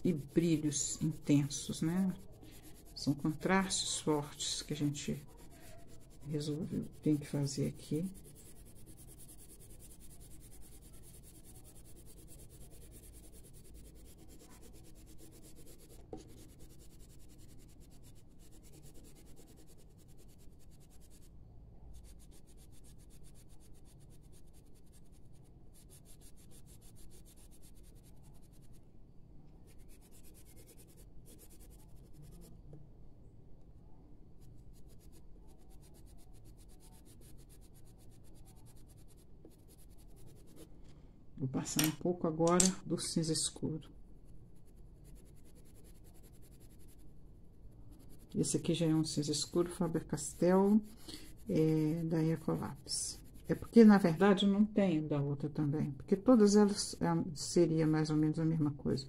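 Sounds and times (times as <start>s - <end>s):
colored pencil shading on paper: 0.0s - 28.8s, 29.5s - 32.8s, 33.8s - 40.7s, 41.6s - 47.1s, 47.7s - 54.5s, 55.4s - 59.0s.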